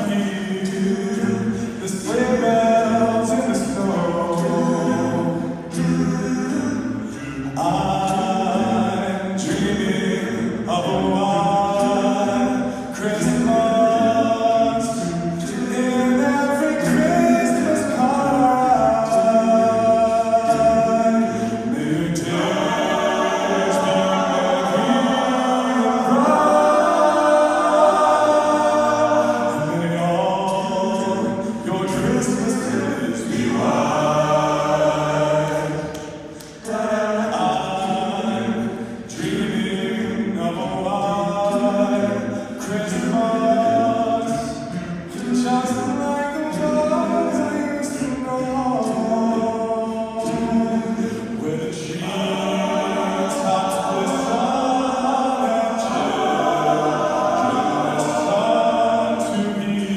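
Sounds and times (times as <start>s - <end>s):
male a cappella group singing: 0.0s - 59.9s.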